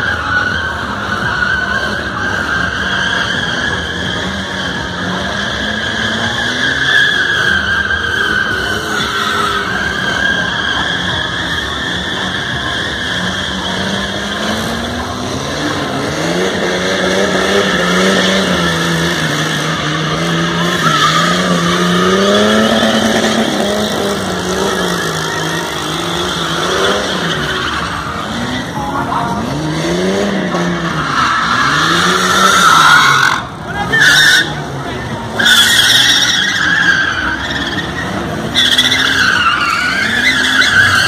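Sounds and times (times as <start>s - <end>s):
car engine revving: 0.0s - 41.0s
tyres skidding and squealing: 0.0s - 41.0s.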